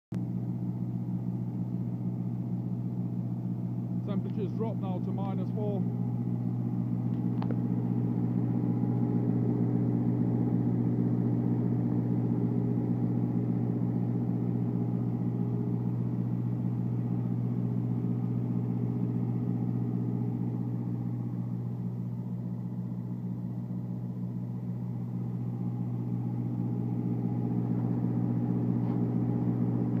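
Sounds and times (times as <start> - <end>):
refrigeration unit diesel engine hum: 0.1 - 30.0.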